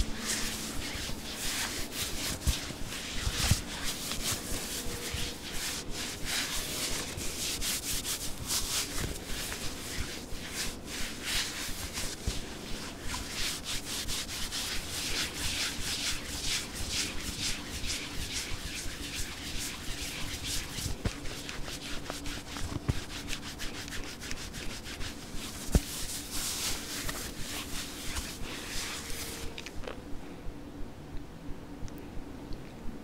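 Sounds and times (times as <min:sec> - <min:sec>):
gloved fingers rubbing camera lens: 0:00.0 - 0:29.6.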